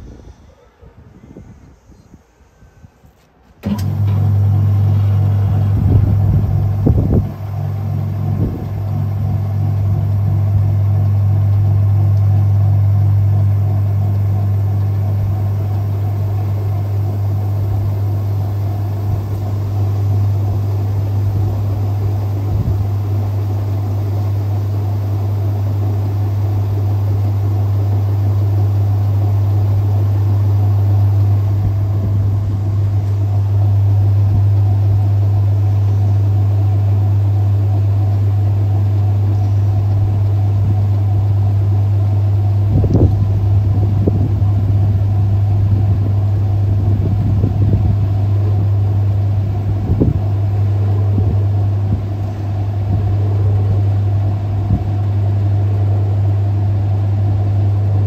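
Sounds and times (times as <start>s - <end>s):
washing machine spinning: 3.6s - 58.0s.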